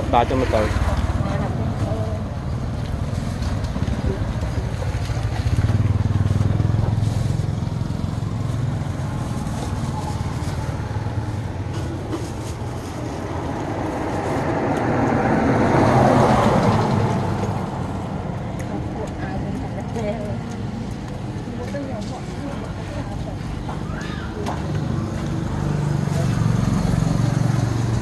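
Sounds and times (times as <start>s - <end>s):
road traffic hum: 0.0s - 28.0s.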